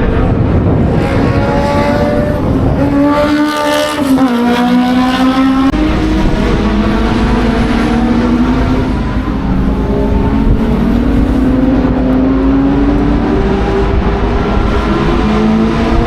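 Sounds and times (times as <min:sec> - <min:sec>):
racing car engines at high revs: 0:00.0 - 0:16.0.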